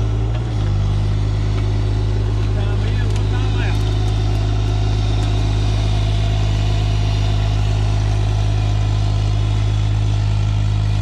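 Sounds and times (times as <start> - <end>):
heavy machinery engine droning: 0.0 - 11.0.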